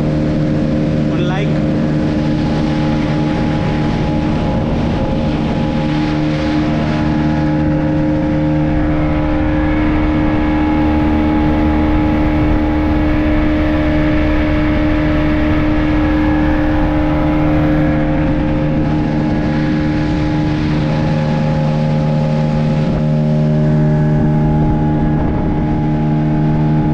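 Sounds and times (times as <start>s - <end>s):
speedboat engine droning: 0.0s - 26.9s
steady rush of noise: 0.0s - 26.9s.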